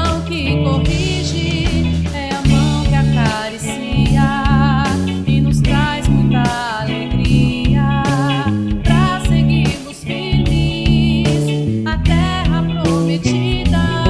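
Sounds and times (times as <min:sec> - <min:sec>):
song with vocals and band: 0:00.0 - 0:14.0.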